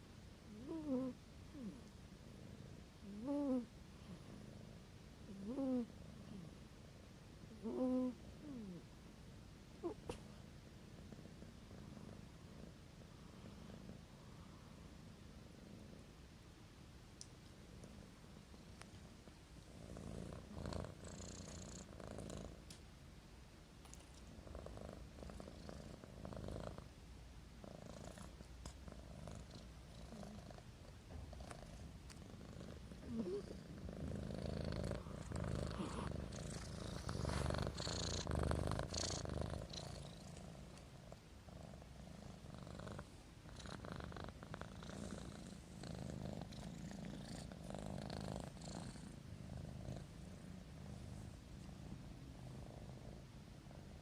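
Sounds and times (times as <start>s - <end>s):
cat purring: 0.4s - 16.4s, 17.2s - 22.8s, 23.8s - 54.0s.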